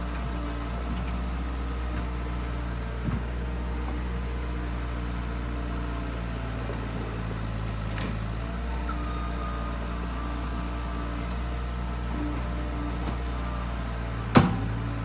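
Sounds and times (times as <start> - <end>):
skid loader engine running: 0.0 - 15.0.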